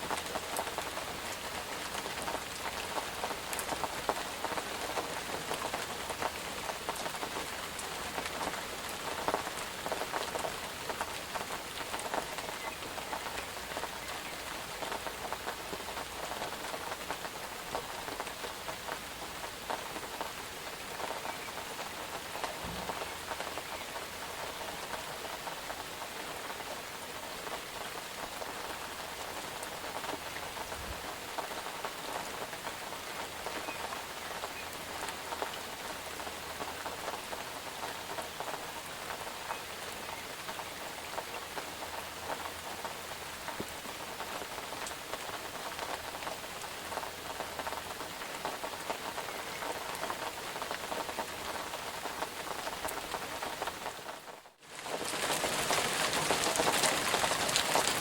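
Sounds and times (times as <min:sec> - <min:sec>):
rain falling on a surface: 0:00.0 - 0:58.0.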